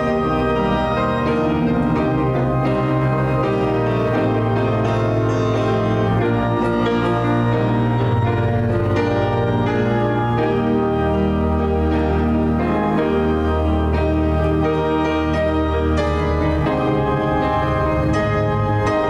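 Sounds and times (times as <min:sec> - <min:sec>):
organ chords over bass: 0:00.0 - 0:19.0.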